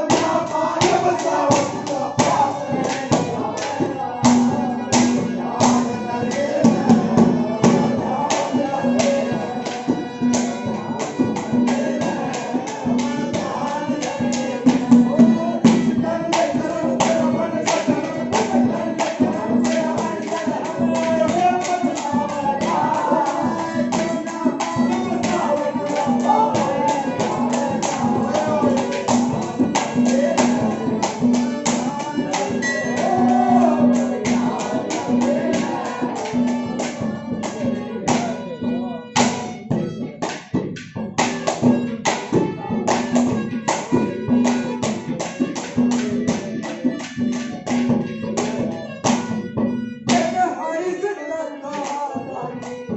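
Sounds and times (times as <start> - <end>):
person singing folk song: 0.0 - 52.9.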